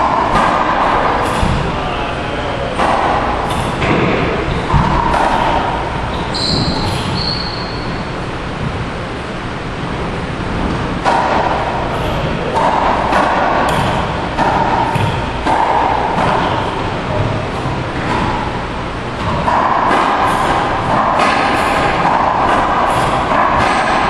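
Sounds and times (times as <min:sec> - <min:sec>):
racquetball hits echoing: 0:00.0 - 0:24.0.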